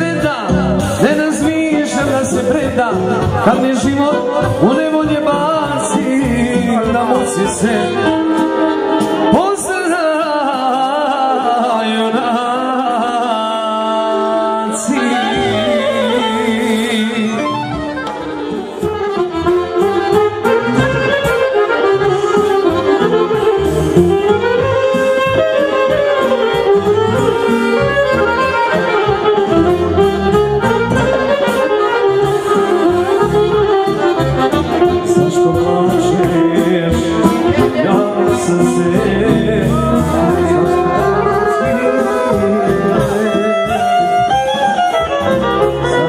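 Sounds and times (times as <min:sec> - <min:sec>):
accordion: 0:00.0 - 0:46.0
folk band playing: 0:00.0 - 0:46.0.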